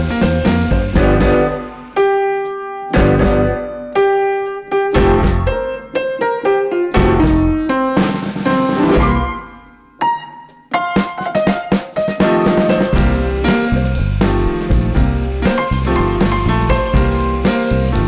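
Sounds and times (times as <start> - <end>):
piano music with bass and drums: 0.0 - 18.0.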